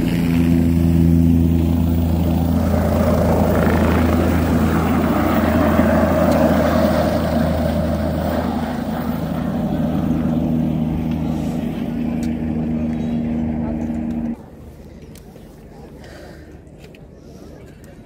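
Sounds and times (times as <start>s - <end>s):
helicopter rotor and turbine: 0.0s - 15.7s
low hum: 0.0s - 15.7s.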